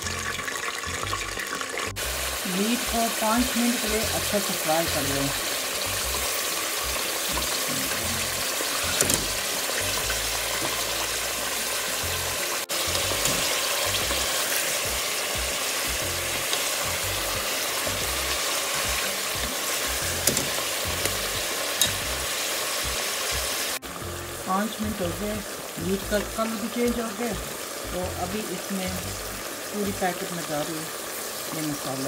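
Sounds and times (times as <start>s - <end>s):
meat sizzling in oil: 0.0s - 32.0s.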